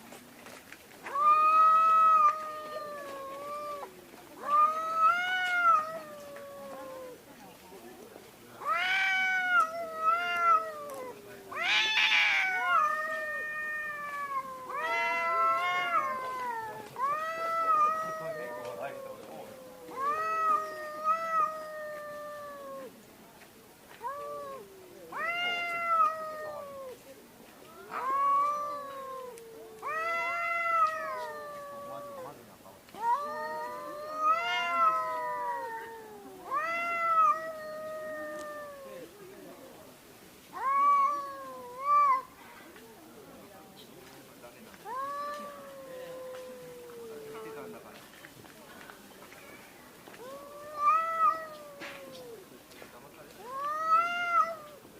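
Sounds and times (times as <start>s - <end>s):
cats yowling in a fight: 1.0s - 7.2s, 8.6s - 23.0s, 24.0s - 27.1s, 27.7s - 39.5s, 40.5s - 42.4s, 44.8s - 47.8s, 50.2s - 52.5s, 53.4s - 54.9s.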